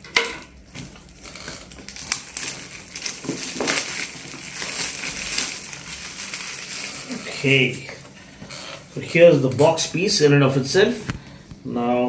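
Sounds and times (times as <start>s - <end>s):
packaging wrap crinkling: 0.0s - 9.8s.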